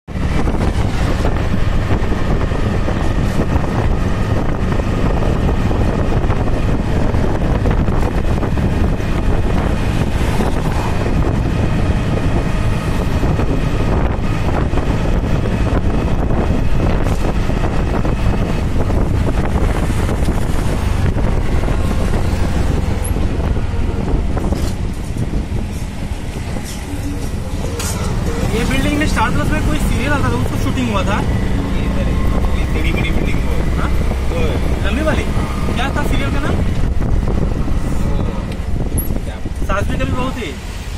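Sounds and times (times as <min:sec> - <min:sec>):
faint vehicle noise: 0:00.1 - 0:40.9
wind buffeting microphone: 0:00.1 - 0:40.9.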